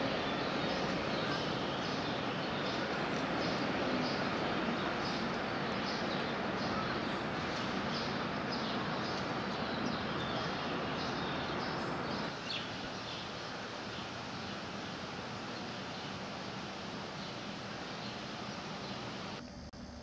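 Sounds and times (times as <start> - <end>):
small birds chirping: 0.0 - 19.4
steady background hiss: 0.0 - 20.0.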